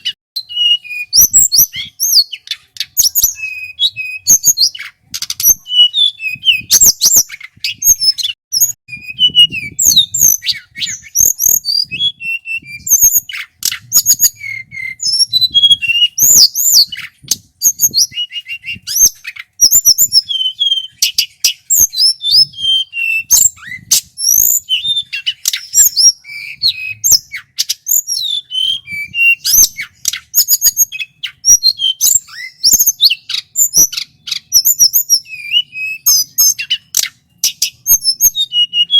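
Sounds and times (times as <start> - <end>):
bird singing with whistles and trills: 0.0 - 38.9.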